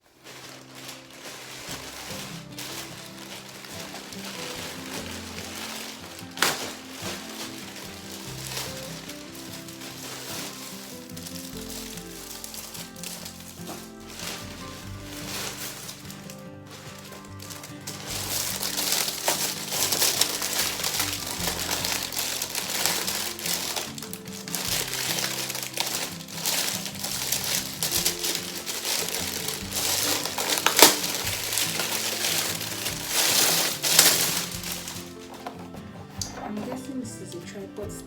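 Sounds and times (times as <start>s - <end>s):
packaging crinkling and rustling: 0.0s - 36.9s
background music: 0.2s - 38.0s.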